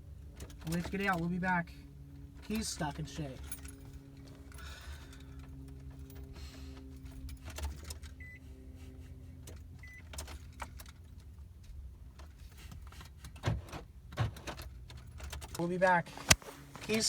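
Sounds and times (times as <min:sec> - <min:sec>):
car keys jangling and clicking: 0:00.2 - 0:08.7, 0:09.3 - 0:15.6.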